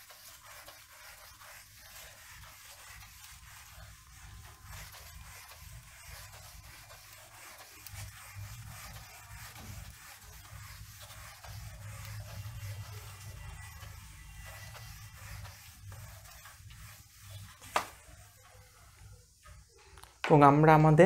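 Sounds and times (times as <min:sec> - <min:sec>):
eraser scrubbing whiteboard: 0:00.0 - 0:19.8.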